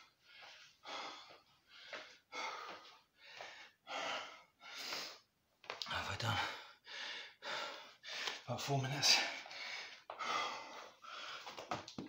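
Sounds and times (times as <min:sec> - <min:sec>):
man panting: 0:00.0 - 0:05.3, 0:06.2 - 0:08.4, 0:09.0 - 0:11.8.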